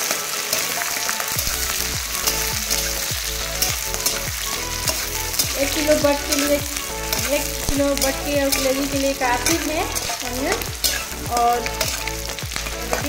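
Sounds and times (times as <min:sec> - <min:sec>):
onions sizzling in hot oil: 0:00.0 - 0:13.0
spatula scraping and tapping pan: 0:02.2 - 0:13.0.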